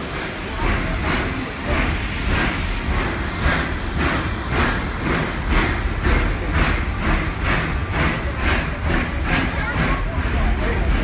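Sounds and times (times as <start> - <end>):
low rumble of moving train cars: 0.0 - 11.0
steam train rhythmic pulses: 0.0 - 11.0.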